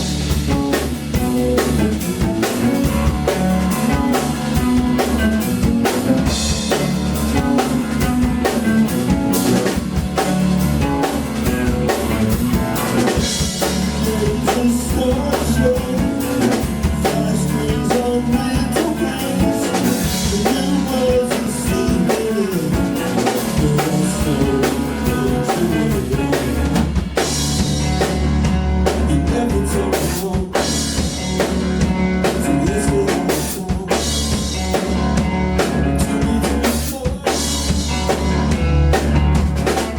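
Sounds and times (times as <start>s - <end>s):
low bass line: 0.0s - 36.8s, 37.4s - 39.9s
drum kit with rimshots: 0.0s - 39.9s
guitar: 0.0s - 39.9s.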